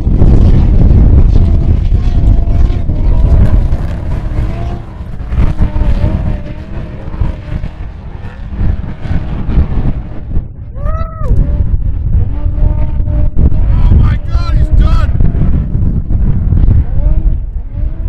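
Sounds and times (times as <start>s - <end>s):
race vehicle engines revving: 0.0s - 18.0s.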